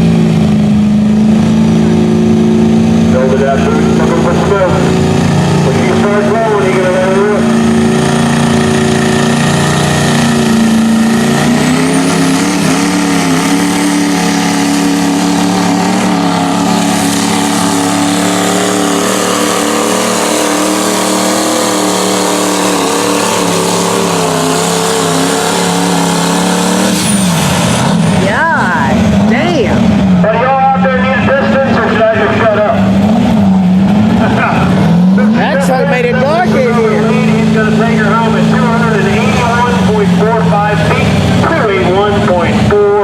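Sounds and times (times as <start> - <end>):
diesel engine running flat out: 0.0 - 43.0.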